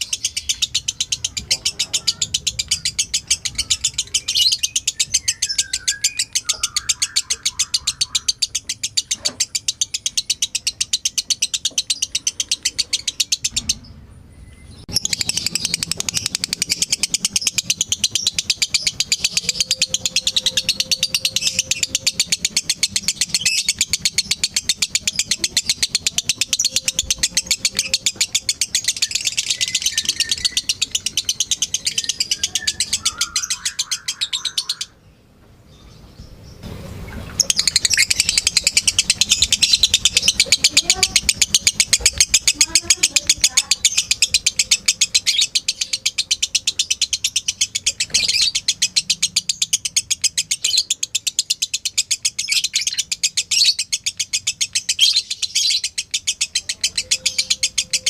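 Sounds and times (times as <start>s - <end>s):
lovebird chattering song: 0.0s - 13.9s, 14.5s - 35.2s, 35.8s - 58.0s.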